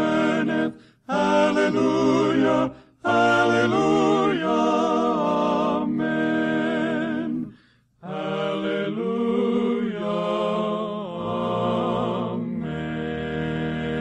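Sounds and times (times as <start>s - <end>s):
male quartet singing harmony: 0.0s - 14.0s.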